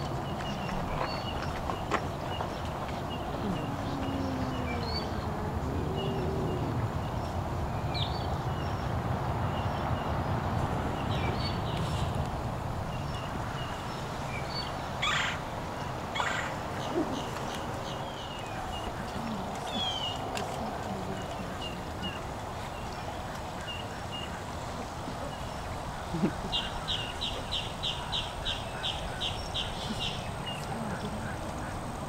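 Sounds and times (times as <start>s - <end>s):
small birds chirping: 0.0s - 8.9s, 12.8s - 32.0s.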